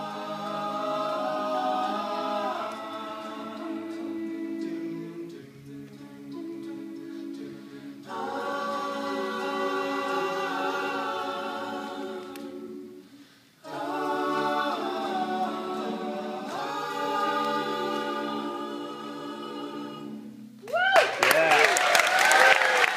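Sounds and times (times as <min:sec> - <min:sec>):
vocal group singing in harmony: 0:00.0 - 0:20.7.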